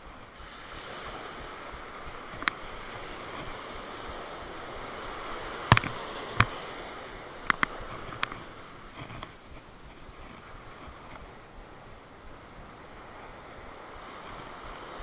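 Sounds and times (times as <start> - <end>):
small surf breaking: 0.0 - 15.0.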